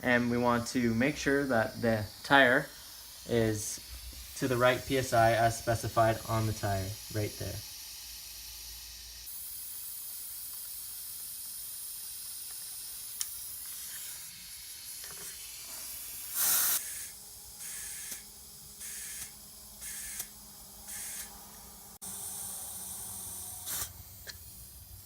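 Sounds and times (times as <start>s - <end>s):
compressed air hissing: 0.0s - 25.0s.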